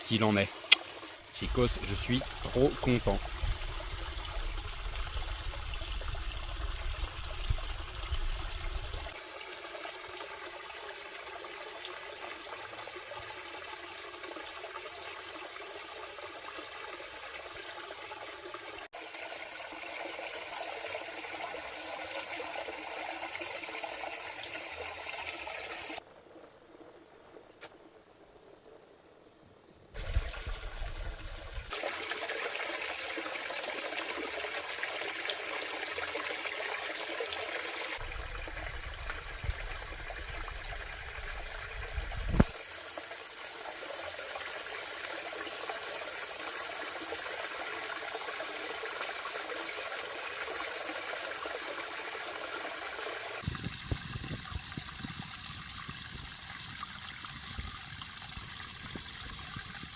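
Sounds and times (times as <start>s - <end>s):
running water: 0.0s - 26.0s, 30.0s - 59.9s.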